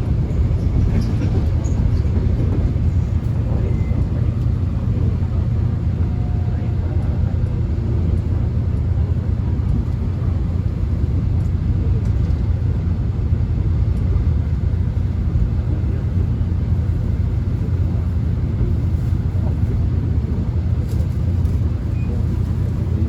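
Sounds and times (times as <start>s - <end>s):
subway train rumbling on track: 0.0s - 23.0s.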